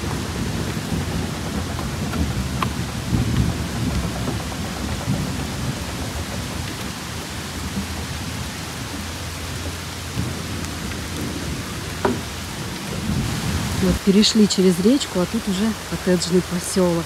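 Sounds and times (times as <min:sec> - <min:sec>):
low irregular rumbling: 0:00.0 - 0:17.0
steady rain hissing: 0:00.0 - 0:17.0.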